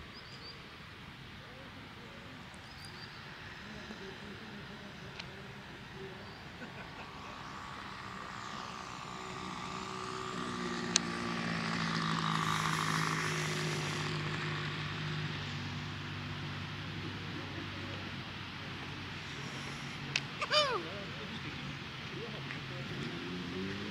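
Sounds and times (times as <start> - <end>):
model plane engine and propeller: 0.0 - 23.9.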